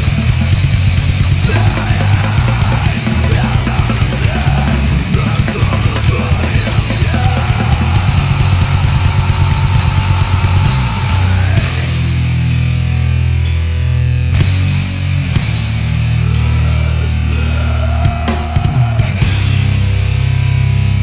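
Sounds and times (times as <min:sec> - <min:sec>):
metal band playing fast: 0:00.0 - 0:21.0.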